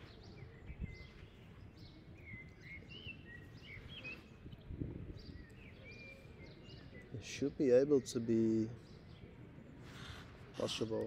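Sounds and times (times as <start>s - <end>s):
faint bird chirps: 0.0s - 10.5s
low background noise: 0.0s - 11.0s.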